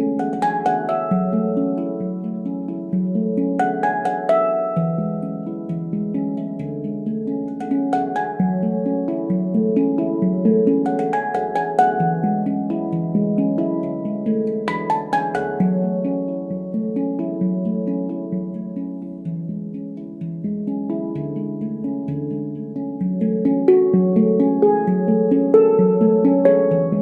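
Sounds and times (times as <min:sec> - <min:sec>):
handpan notes ringing: 0:00.0 - 0:27.0.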